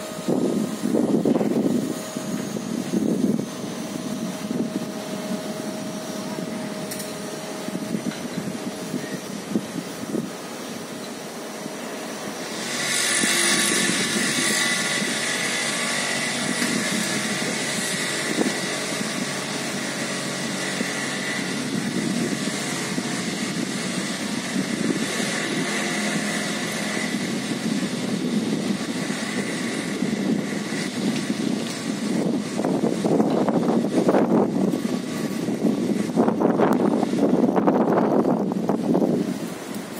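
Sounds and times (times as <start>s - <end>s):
excavator engine: 0.0s - 39.9s
vibratory piling hammer whine: 0.0s - 39.9s.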